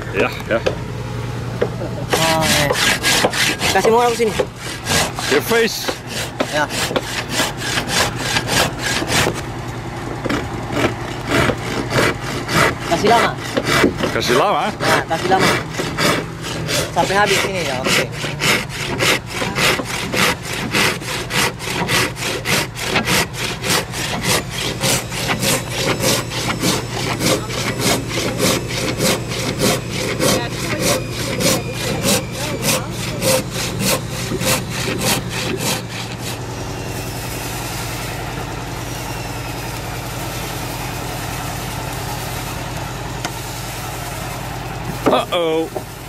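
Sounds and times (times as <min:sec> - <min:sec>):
handsaw cutting wood: 0:01.6 - 0:09.5, 0:10.1 - 0:46.0.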